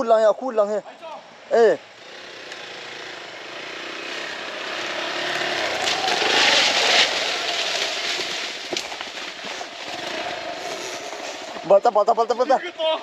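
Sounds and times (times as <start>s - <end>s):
motorcycle engine running: 1.8s - 13.0s.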